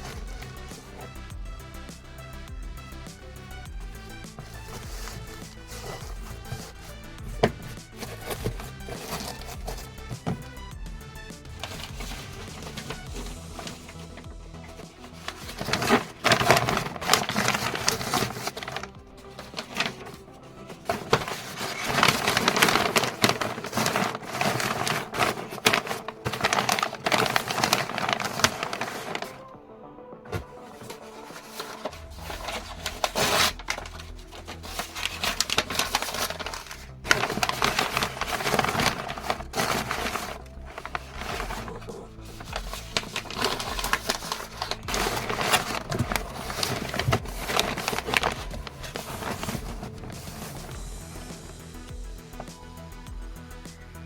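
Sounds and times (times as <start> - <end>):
packing material crinkling: 0.0 - 1.3, 3.6 - 29.5, 30.3 - 51.7.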